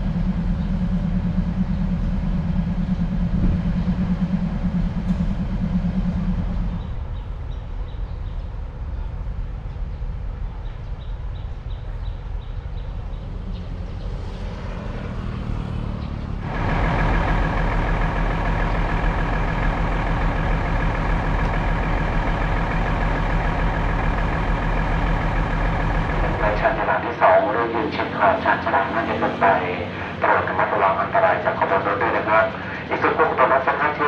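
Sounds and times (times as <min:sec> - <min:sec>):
diesel locomotive engine humming: 0:00.0 - 0:34.0
locomotive engine whine: 0:00.0 - 0:34.0.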